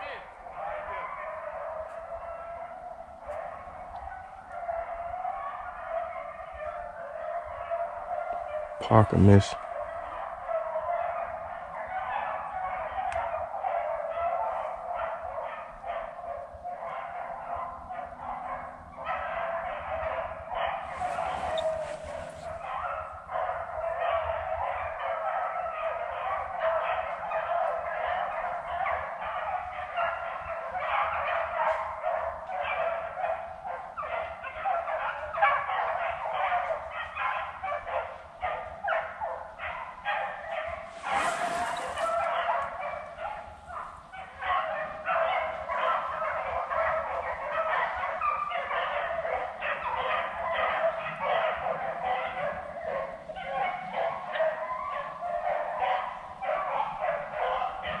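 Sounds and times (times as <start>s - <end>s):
dogs baying: 0.0s - 58.0s.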